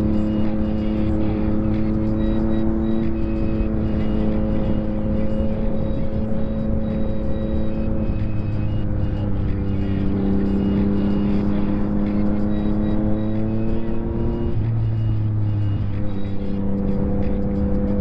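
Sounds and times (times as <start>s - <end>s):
loud motorcycle exhaust note: 0.0s - 18.0s.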